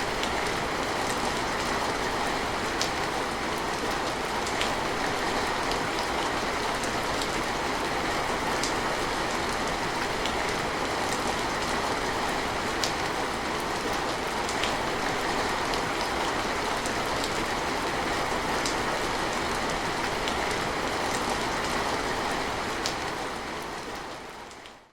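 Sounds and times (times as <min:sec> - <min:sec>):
steady rainfall: 0:00.0 - 0:24.9.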